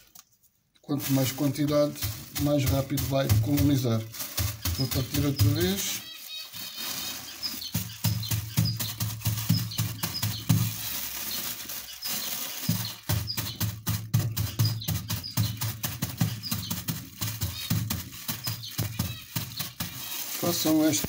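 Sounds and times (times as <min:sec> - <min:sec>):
plastic bag crinkling: 0:00.0 - 0:21.0
grains crunching and crackling: 0:00.8 - 0:21.0.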